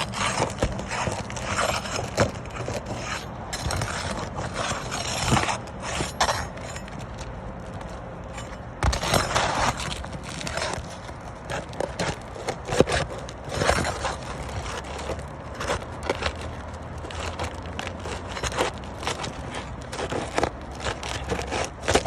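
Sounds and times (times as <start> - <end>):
objects scraping and knocking: 0.0 - 22.0.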